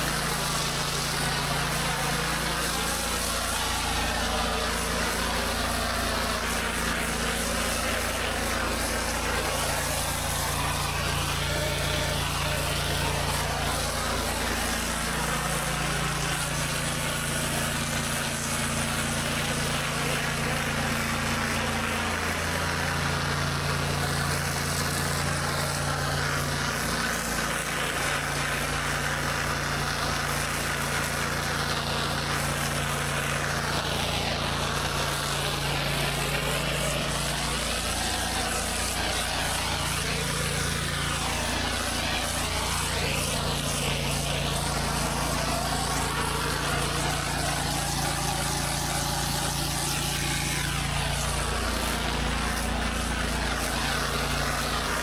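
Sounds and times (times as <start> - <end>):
hiss of spraying water: 0.0 - 55.0
pressure washer engine running: 0.0 - 55.0.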